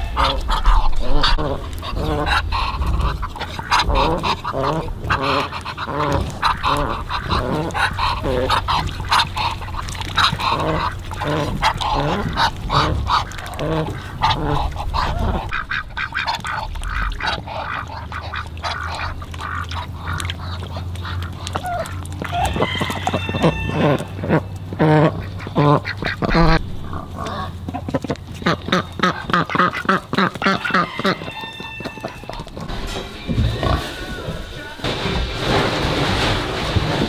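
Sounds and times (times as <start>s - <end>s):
ducks quacking: 0.0s - 36.3s
low steady hum: 0.0s - 37.0s.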